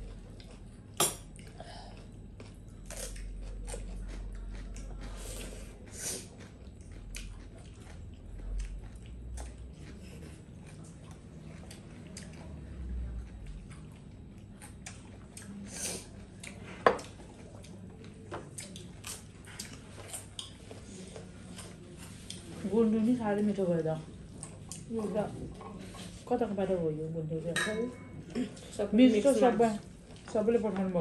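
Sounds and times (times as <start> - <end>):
people chewing: 0.0 - 26.5, 28.2 - 31.0.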